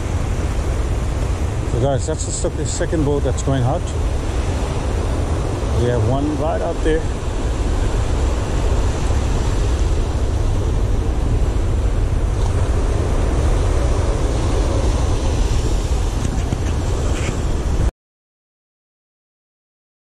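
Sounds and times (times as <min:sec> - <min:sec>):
ocean surf breaking: 0:00.0 - 0:17.9
wind buffeting microphone: 0:00.0 - 0:17.9.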